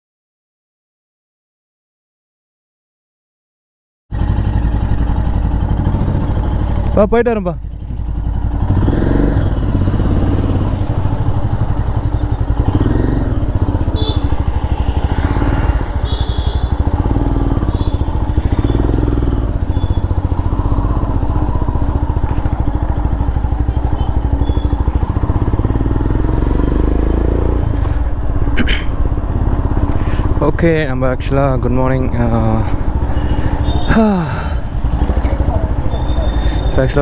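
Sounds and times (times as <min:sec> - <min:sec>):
motorcycle engine running: 0:04.1 - 0:37.0.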